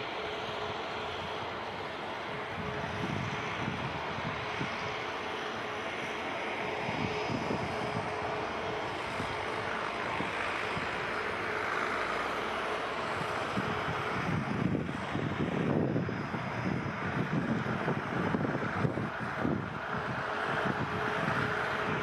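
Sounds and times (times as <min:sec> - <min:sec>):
jet engines running with whine: 0:00.0 - 0:22.0
wind buffeting microphone: 0:00.5 - 0:05.1, 0:05.9 - 0:12.2, 0:12.9 - 0:22.0.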